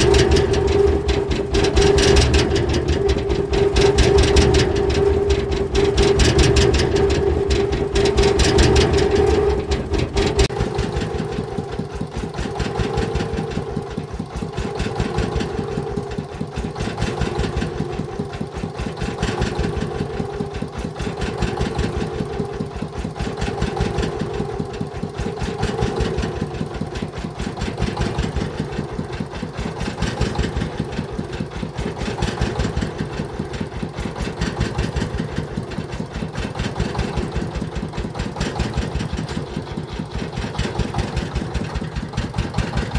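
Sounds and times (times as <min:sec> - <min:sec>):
diesel engine knocking clatter: 0:00.0 - 0:42.9.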